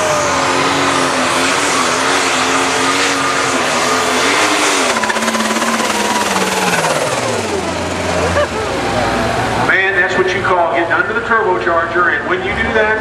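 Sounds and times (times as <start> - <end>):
diesel tractor engine at full throttle: 0.0 - 13.0.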